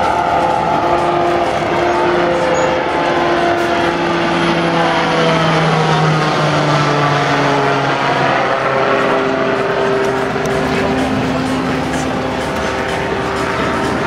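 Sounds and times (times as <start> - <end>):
propeller plane flying overhead: 0.0 - 14.0.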